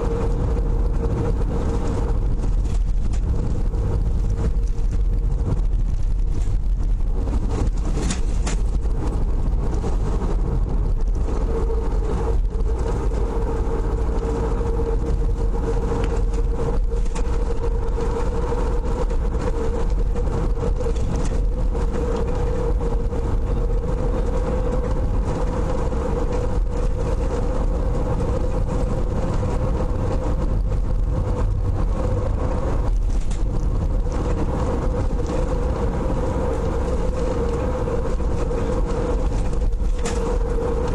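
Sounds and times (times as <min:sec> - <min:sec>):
car engine and road rumble: 0:00.0 - 0:40.9
constant hum: 0:00.0 - 0:40.9.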